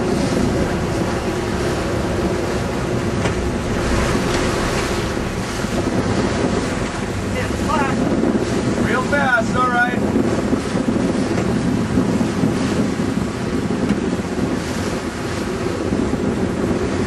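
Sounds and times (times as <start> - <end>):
boat engine drone: 0.0 - 17.0
sea wash: 0.0 - 17.0
wind buffeting microphone: 0.0 - 17.0.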